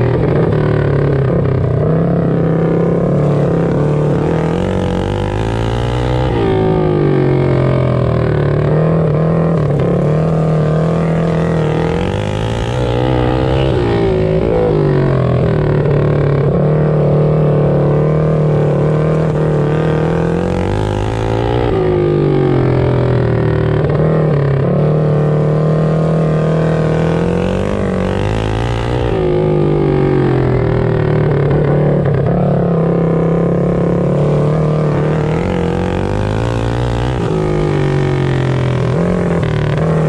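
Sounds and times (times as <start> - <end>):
mini bike engines racing: 0.0 - 40.0.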